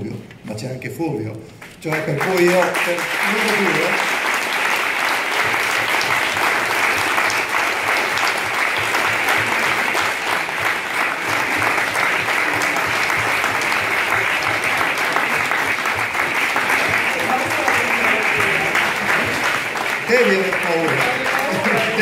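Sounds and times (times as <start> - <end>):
crowd applauding: 1.6 - 22.0.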